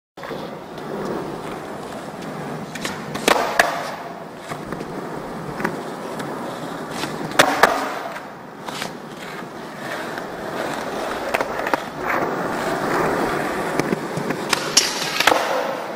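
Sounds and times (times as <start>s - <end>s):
skateboard clacks: 0.2s - 15.9s
skateboard wheels rolling on concrete: 0.2s - 15.9s.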